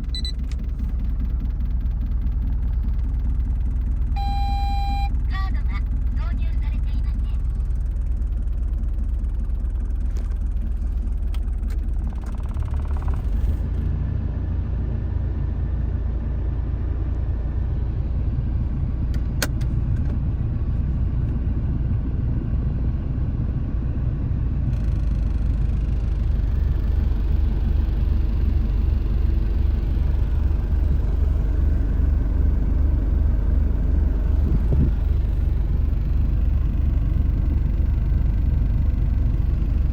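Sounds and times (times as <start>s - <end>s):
car engine idling: 0.0s - 14.1s, 15.3s - 39.9s.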